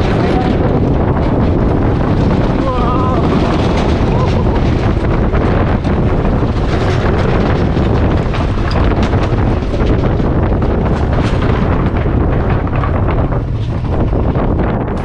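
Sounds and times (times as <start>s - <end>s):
motorcycle running: 0.0s - 15.0s
wind rumble on microphone: 0.0s - 15.0s.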